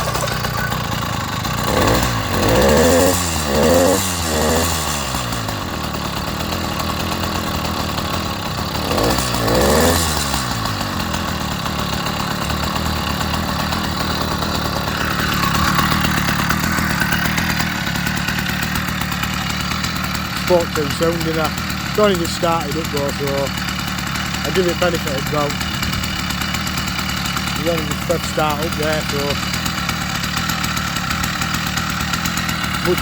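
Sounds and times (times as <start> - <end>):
two-stroke engine idling and revving: 0.0 - 33.0.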